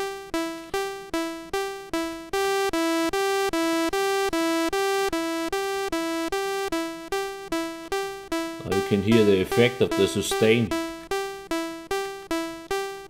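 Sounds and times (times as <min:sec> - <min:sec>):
synth tone two-note pattern: 0:00.0 - 0:13.0.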